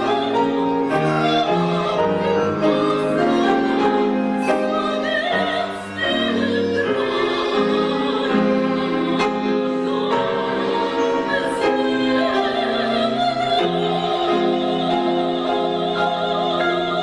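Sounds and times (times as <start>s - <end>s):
instrumental accompaniment: 0.0s - 17.0s
woman singing operatically: 0.0s - 17.0s.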